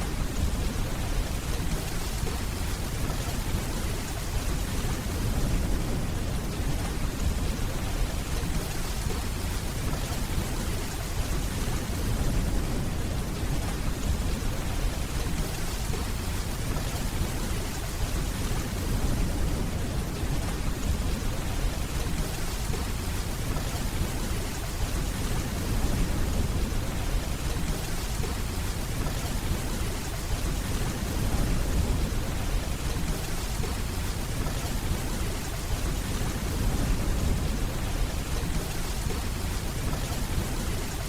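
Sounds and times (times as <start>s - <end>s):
steady rainfall: 0.0s - 41.0s.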